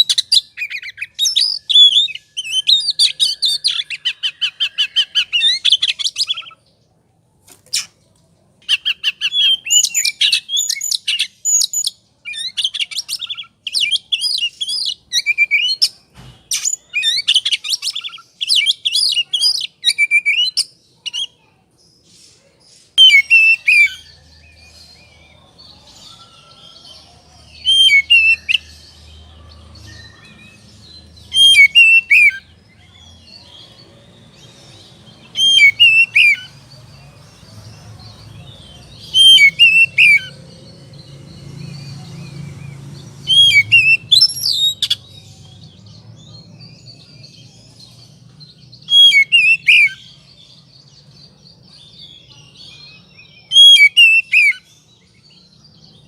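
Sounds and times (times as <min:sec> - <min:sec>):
bird singing whistles and chatter: 0:08.7 - 0:21.5, 0:22.1 - 0:56.0.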